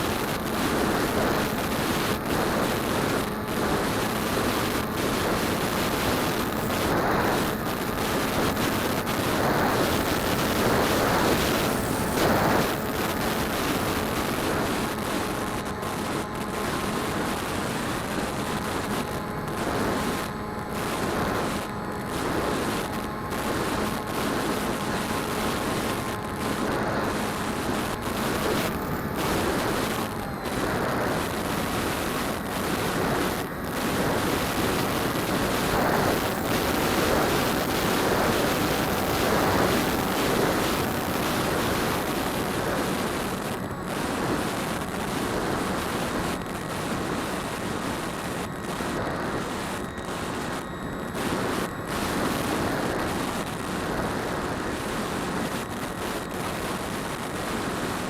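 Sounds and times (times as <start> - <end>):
quadcopter propellers rushing: 0.0 - 58.0
wind: 0.0 - 58.0.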